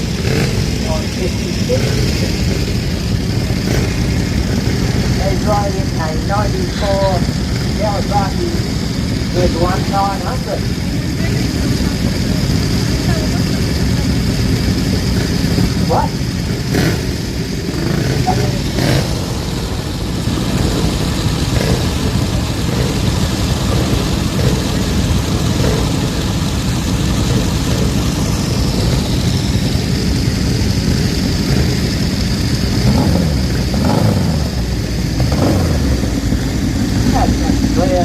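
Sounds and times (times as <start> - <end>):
motorcycle engines running: 0.0 - 38.0.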